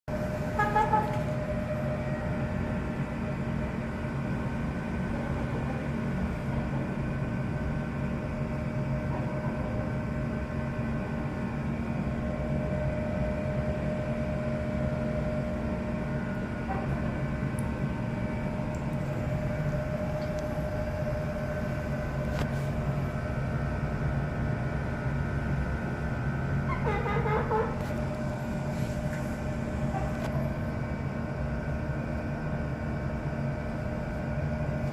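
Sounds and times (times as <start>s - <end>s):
steady mechanical drone: 0.1s - 34.9s.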